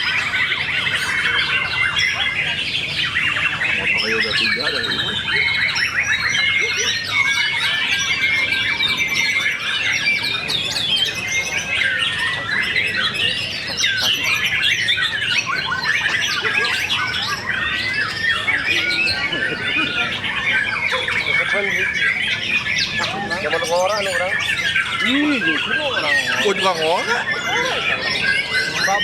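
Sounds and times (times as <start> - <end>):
chorus of songbirds: 0.0 - 29.0.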